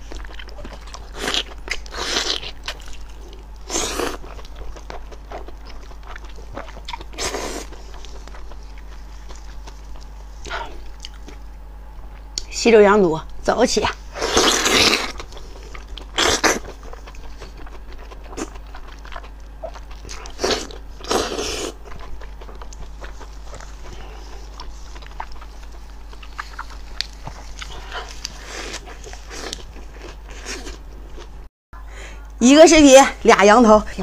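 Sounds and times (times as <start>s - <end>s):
chewing with wet smacks: 0.0s - 11.4s, 15.1s - 31.3s
lettuce crunching: 0.0s - 11.4s, 14.2s - 31.3s.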